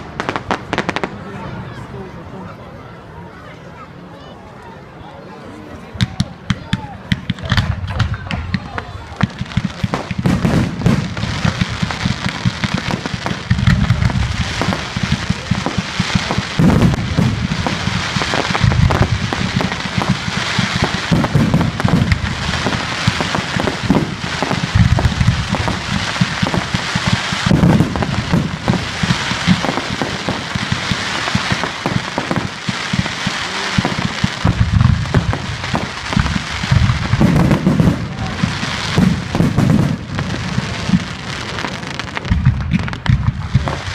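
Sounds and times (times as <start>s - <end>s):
fireworks crackling pops: 0.0s - 1.2s, 6.0s - 43.9s
deep firework booms: 6.1s - 43.9s.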